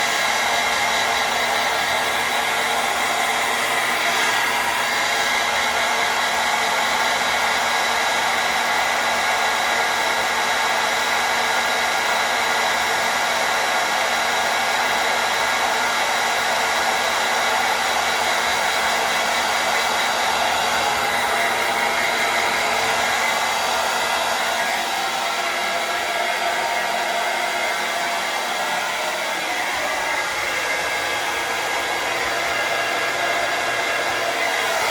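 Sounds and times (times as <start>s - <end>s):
hair dryer running: 0.0s - 34.9s.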